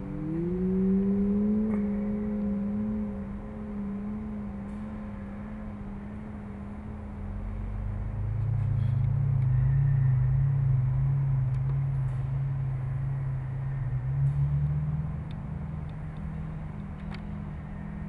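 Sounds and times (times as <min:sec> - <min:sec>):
low droning rumble: 0:00.0 - 0:18.0.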